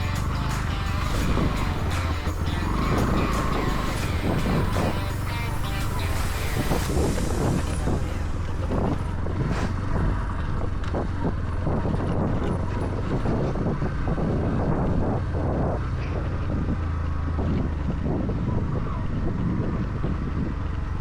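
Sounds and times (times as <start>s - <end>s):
vehicle engine running: 0.0s - 21.0s
wind buffeting microphone: 0.0s - 21.0s.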